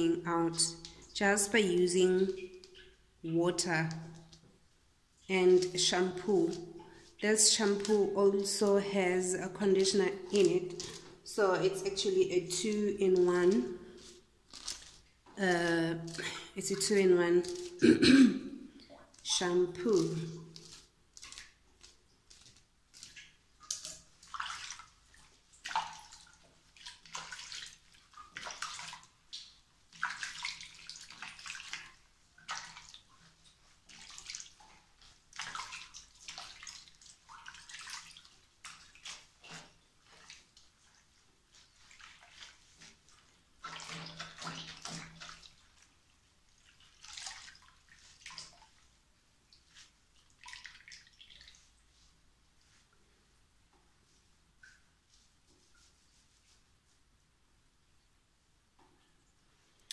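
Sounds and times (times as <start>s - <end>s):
water sloshing in a sink: 0.0s - 57.2s.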